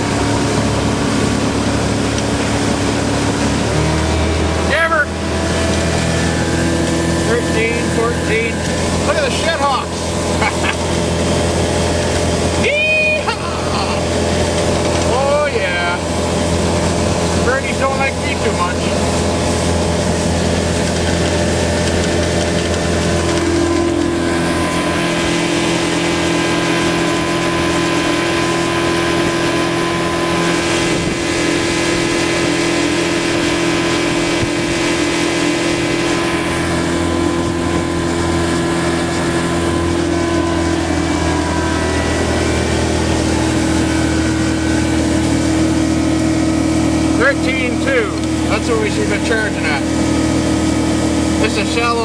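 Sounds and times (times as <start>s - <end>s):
outboard motor running: 0.0s - 52.0s.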